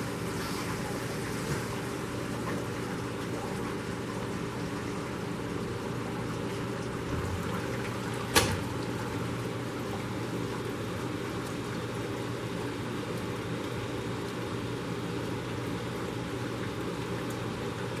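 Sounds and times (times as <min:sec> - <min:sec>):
dishwasher pump hum: 0:00.0 - 0:18.0
water spraying inside machine: 0:00.0 - 0:18.0.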